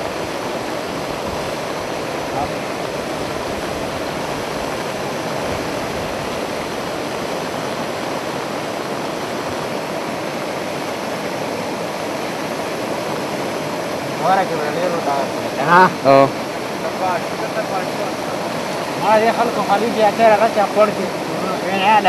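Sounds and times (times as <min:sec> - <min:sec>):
floodwater rushing over causeway: 0:00.0 - 0:22.0.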